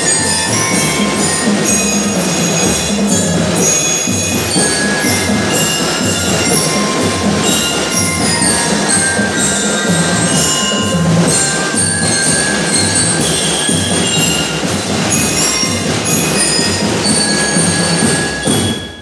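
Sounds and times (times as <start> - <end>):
bell lyres playing melody: 0.0 - 19.0
snare and bass drums: 0.0 - 19.0.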